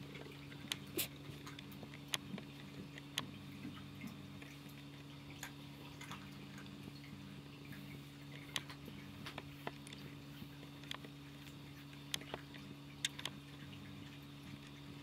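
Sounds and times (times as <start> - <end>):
faint low hum: 0.0 - 15.0
small clicks and ticks: 0.0 - 15.0.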